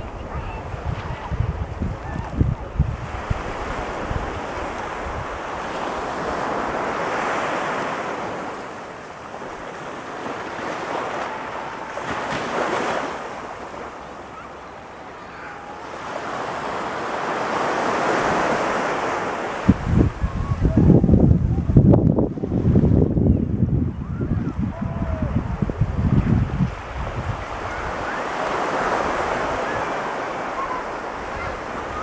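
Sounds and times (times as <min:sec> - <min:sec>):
ocean surf breaking: 0:00.0 - 0:32.0.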